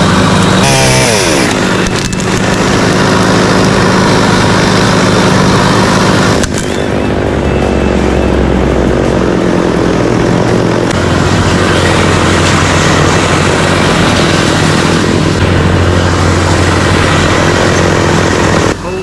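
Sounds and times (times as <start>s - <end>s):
chainsaw engine running loudly: 0.0s - 19.0s.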